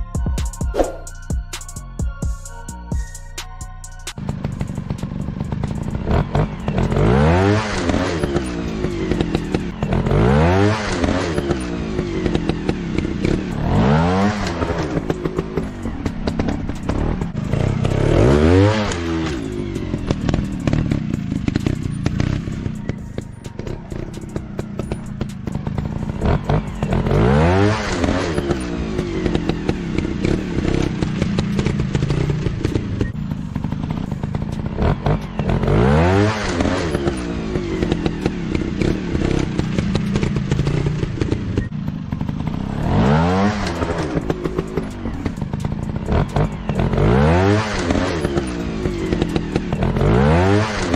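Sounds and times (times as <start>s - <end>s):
motorcycle engine revving: 4.0s - 50.9s.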